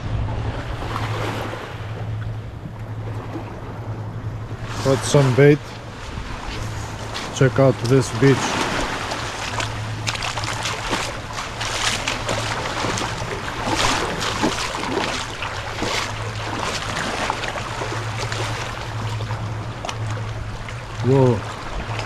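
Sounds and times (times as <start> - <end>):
steady low hum: 0.0 - 22.0
water lapping at shore: 0.0 - 22.0.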